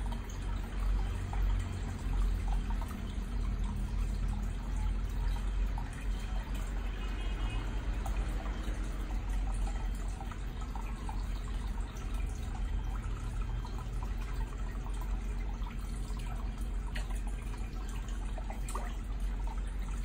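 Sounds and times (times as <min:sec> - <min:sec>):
constant low hum: 0:00.0 - 0:20.0
water trickling and splashing: 0:00.0 - 0:20.0.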